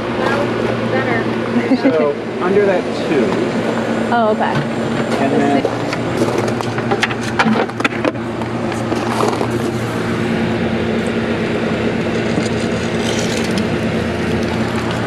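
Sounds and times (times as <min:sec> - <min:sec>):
pool pump motor humming: 0:00.0 - 0:15.0.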